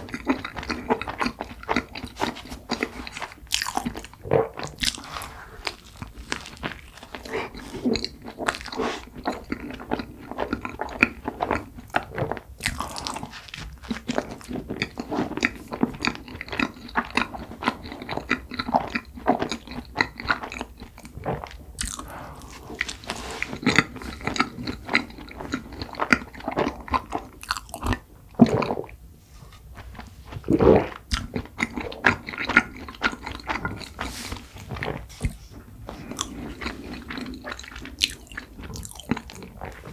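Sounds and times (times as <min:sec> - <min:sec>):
close-miked eating and chewing: 0:00.0 - 0:39.9.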